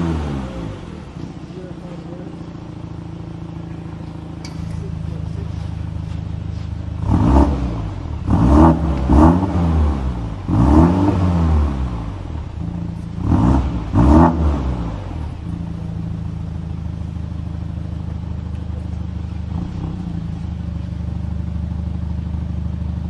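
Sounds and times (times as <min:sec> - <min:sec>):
engine revving: 0:00.0 - 0:21.5
car exhaust idling: 0:00.0 - 0:23.0.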